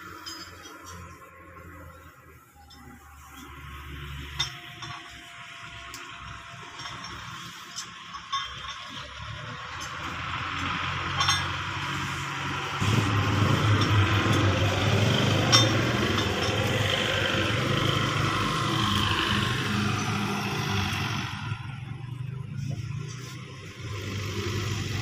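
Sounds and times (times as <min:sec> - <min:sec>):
vehicle engine running: 0:00.8 - 0:25.0.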